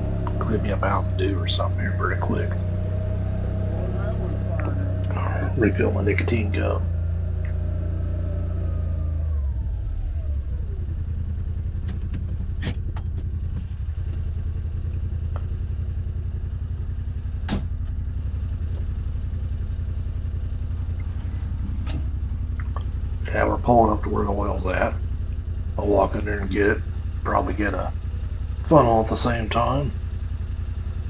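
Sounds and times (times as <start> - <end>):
utility vehicle engine running: 0.0 - 31.0.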